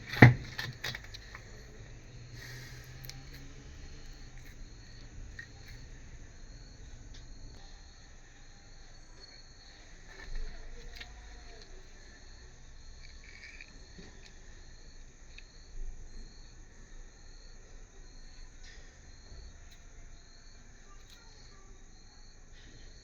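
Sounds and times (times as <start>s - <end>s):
cricket chirping: 0.0s - 23.0s
low steady hum: 0.0s - 23.0s.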